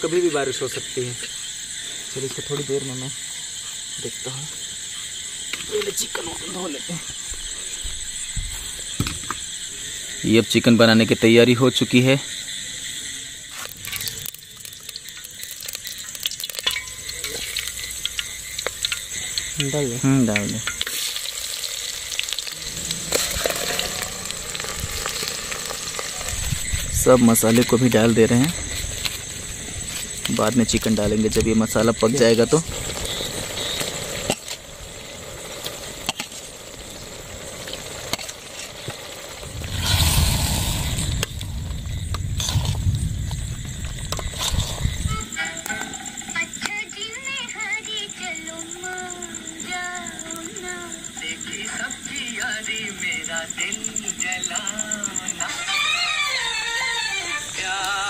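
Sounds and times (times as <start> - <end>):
hot oil sizzling: 0.0 - 58.0.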